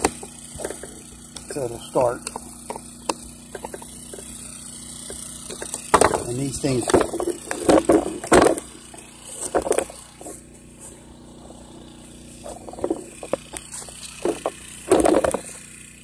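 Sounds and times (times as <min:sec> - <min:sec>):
handling knocks and scrapes: 0:00.0 - 0:04.3, 0:05.1 - 0:11.6, 0:12.3 - 0:15.6
generator humming: 0:00.0 - 0:16.0.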